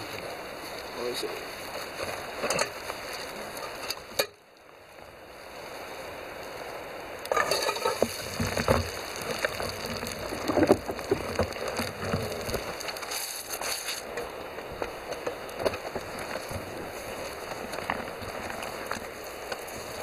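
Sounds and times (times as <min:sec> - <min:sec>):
crackles: 0:00.0 - 0:20.0
dough sizzling in hot oil: 0:00.0 - 0:20.0.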